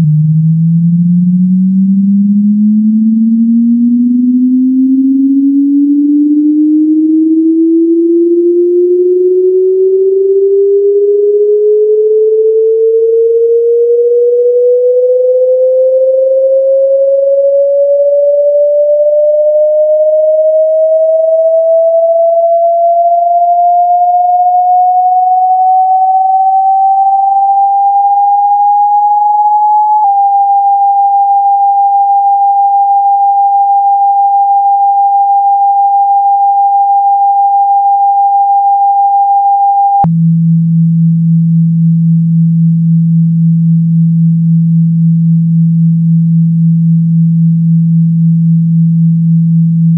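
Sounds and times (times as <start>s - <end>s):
sine tone sweeping upward: 0.0s - 49.9s.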